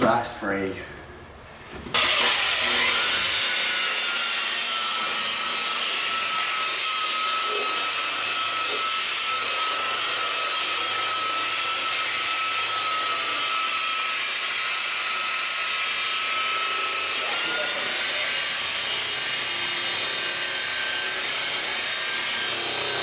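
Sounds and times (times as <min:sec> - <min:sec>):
motor whining: 0:01.9 - 0:23.0.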